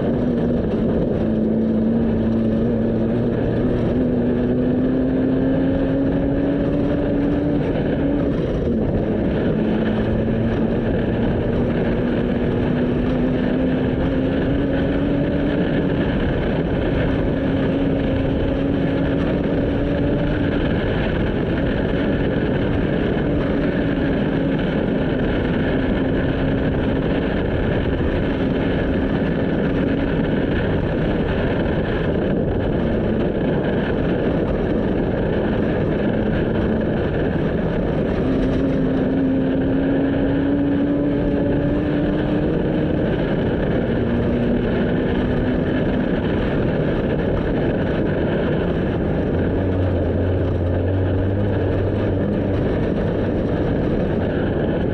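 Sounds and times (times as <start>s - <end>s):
constant rushing noise: 0.0s - 54.9s
race vehicle engine running hard: 0.0s - 54.9s.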